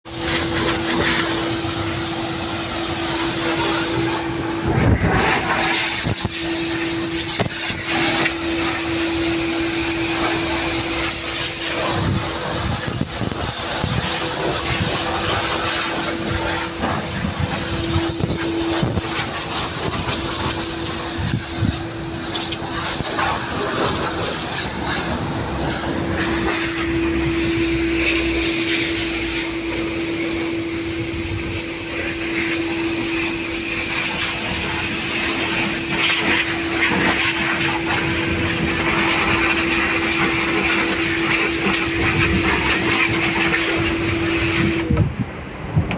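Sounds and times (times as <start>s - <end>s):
pressure washer motor hum: 0.0s - 45.6s
pressure washer hiss: 0.1s - 45.0s.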